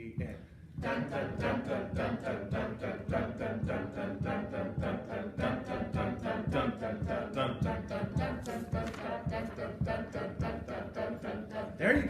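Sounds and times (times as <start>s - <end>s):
choir chanting steady pulse: 0.8s - 12.0s.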